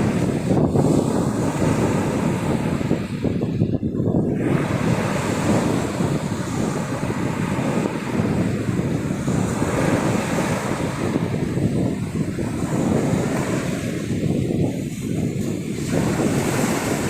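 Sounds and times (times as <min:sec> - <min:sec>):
sea waves washing onto beach: 0:00.0 - 0:17.0
wind buffeting microphone: 0:00.0 - 0:17.0.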